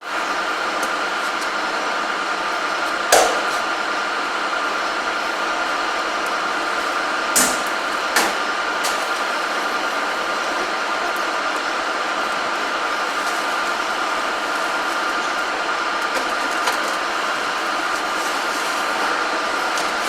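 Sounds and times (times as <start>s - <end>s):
workshop hum: 0.0s - 20.0s.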